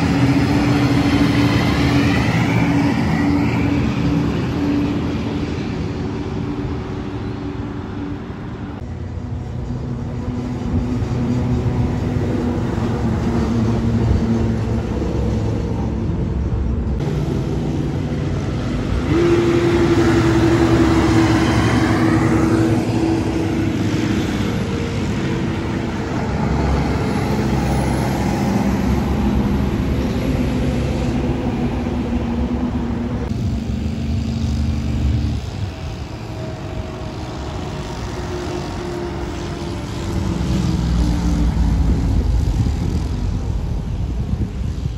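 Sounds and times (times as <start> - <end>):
diesel truck engines passing: 0.0 - 44.9
tyre and road noise: 0.0 - 44.9.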